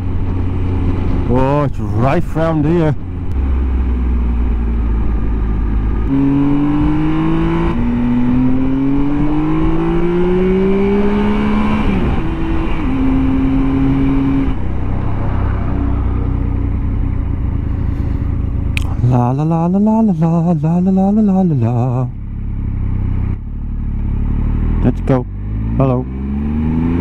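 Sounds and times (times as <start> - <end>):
engine accelerating: 0.0 - 27.0
road and wind rumble: 0.0 - 27.0.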